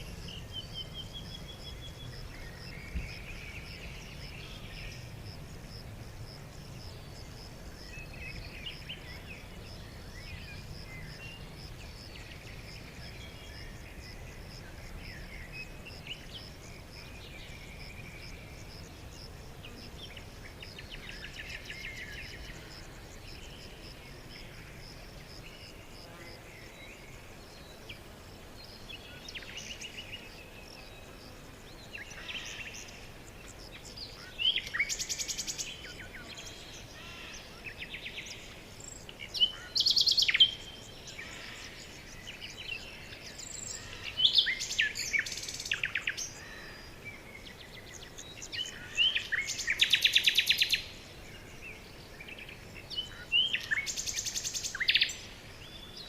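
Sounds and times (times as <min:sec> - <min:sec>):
songbird singing with trill: 0:00.0 - 0:05.6, 0:06.7 - 0:24.8, 0:28.6 - 0:56.0
faint steady hiss: 0:00.0 - 0:56.0
quiet bird calls: 0:06.7 - 0:56.0.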